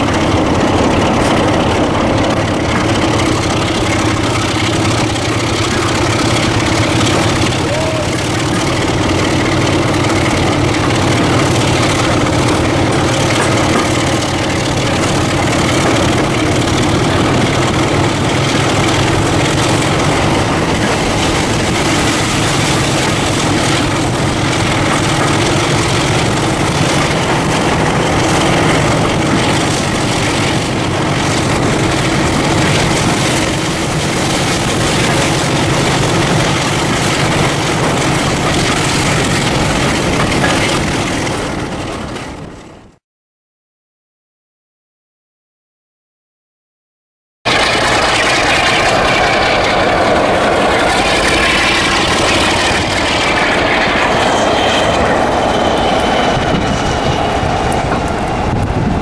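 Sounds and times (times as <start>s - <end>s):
diesel locomotive engine idling: 0.0s - 43.0s, 47.5s - 59.0s.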